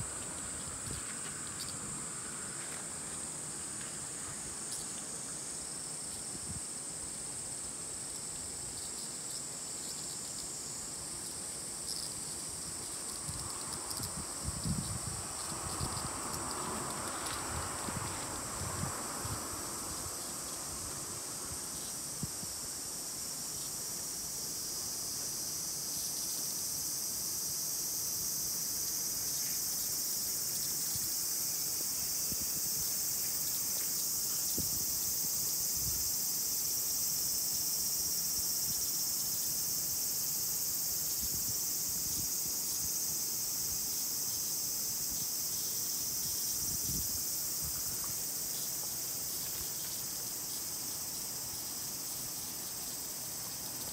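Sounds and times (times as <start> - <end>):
cicadas singing: 0.0 - 53.9.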